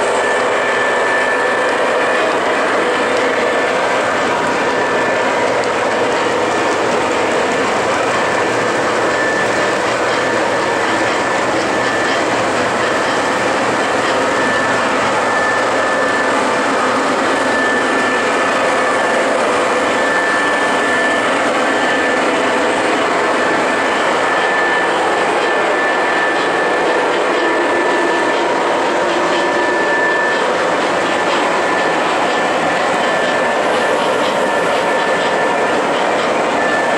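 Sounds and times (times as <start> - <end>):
model train running on track: 0.0 - 36.9
thin high whine: 0.0 - 36.9.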